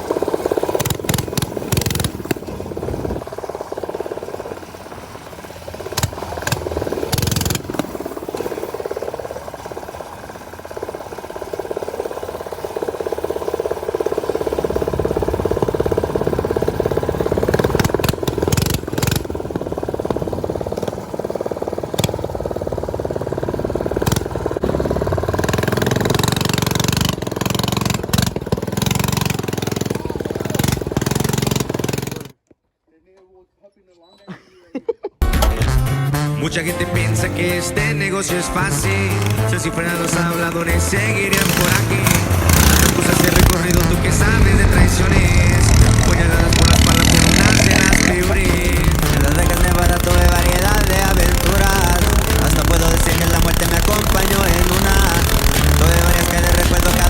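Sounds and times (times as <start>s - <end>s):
small motorcycle engines running: 0.0s - 32.5s, 35.2s - 57.0s.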